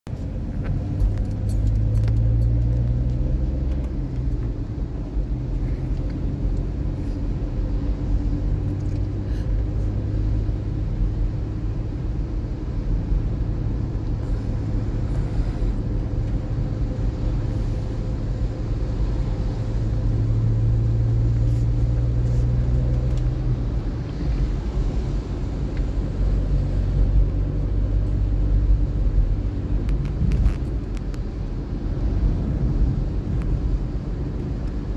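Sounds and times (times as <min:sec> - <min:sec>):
car engine hum: 0:00.0 - 0:34.9
road noise on wet roads: 0:00.1 - 0:34.9.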